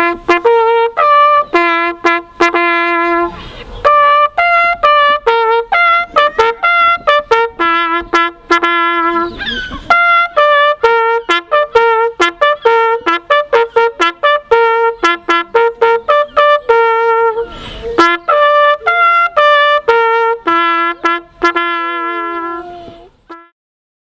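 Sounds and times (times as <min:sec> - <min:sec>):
solo trumpet melody: 0:00.0 - 0:23.6.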